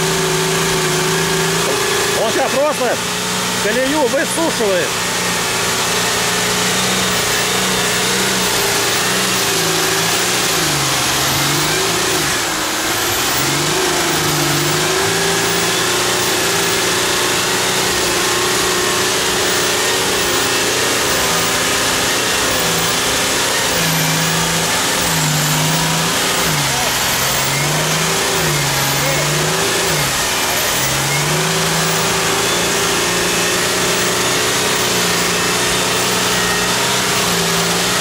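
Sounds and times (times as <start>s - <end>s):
engine revving: 0.0s - 38.0s.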